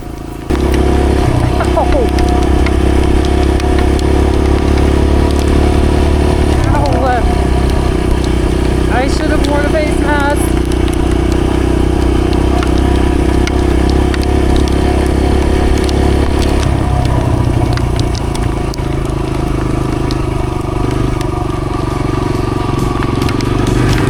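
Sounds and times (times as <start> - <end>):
dirt bike engine running: 0.0 - 24.0
sharp clicks: 0.3 - 24.0.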